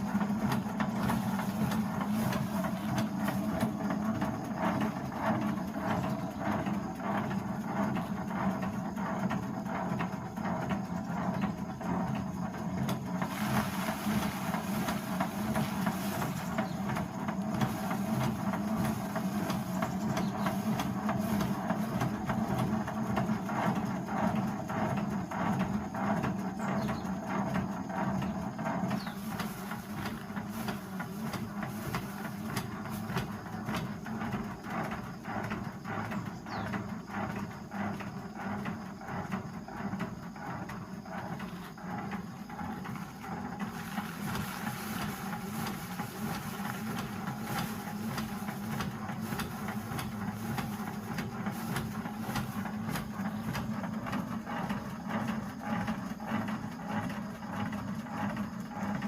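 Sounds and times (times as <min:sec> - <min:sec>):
machine motor rattling: 0:00.0 - 0:59.0.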